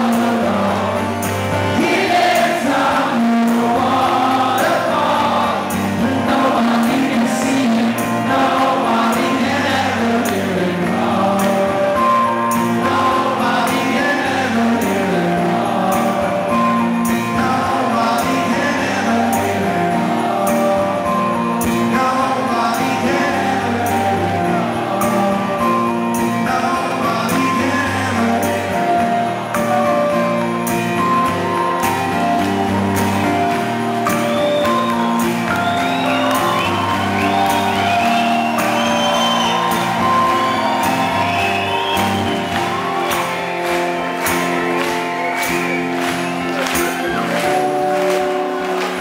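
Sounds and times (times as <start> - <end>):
guitars: 0.0 - 49.0
person singing: 0.0 - 49.0.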